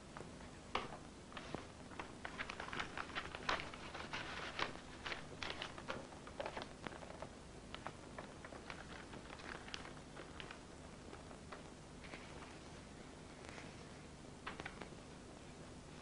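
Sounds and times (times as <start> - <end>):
paper rustling: 0.8 - 15.0.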